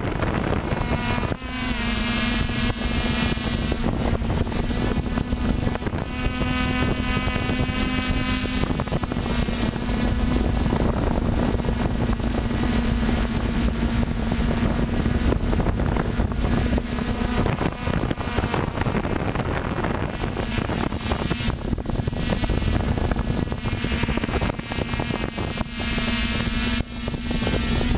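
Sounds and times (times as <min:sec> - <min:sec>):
drone propellers humming: 0:00.0 - 0:27.9
wind rumble on microphone: 0:00.0 - 0:27.9.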